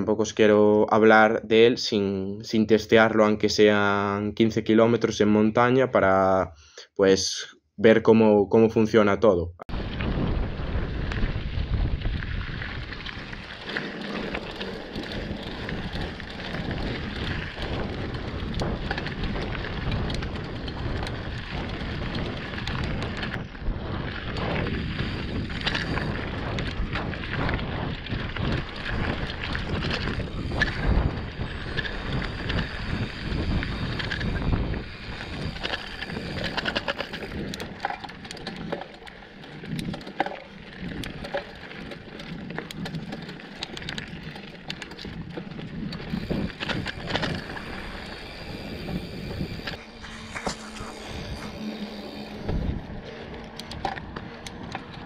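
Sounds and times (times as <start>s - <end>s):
wind on camera microphone: 9.7s - 55.0s
bike frame rattling and knocking: 9.8s - 55.0s.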